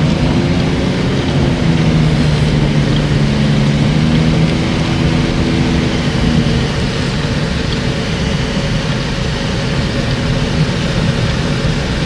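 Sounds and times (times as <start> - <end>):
car engine and tyre noise: 0.0 - 12.0
rain on car body: 0.0 - 12.0.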